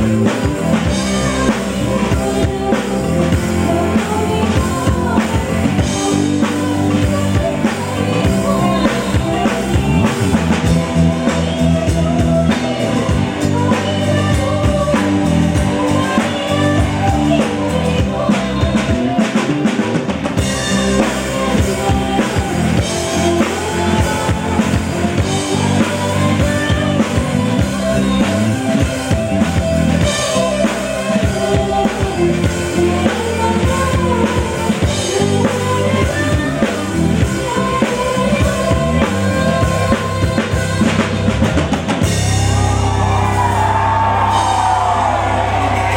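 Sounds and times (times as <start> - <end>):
drum kit beat: 0.0 - 45.9
live band music: 0.0 - 45.9.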